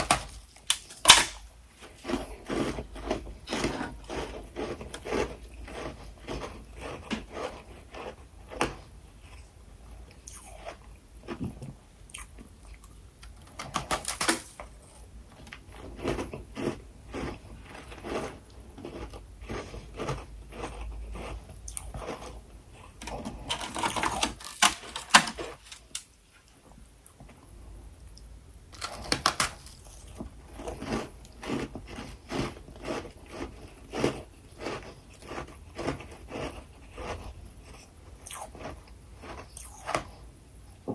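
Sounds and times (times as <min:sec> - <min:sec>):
frost being chewed and crunched: 0:00.0 - 0:27.3, 0:28.8 - 0:40.3.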